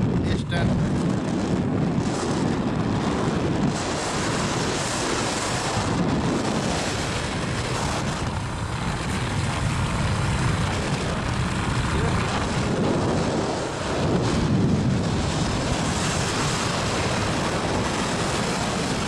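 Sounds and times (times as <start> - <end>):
wind over microphone: 0.0 - 19.0
motorcycle engine: 1.6 - 19.0
road noise: 1.6 - 19.0.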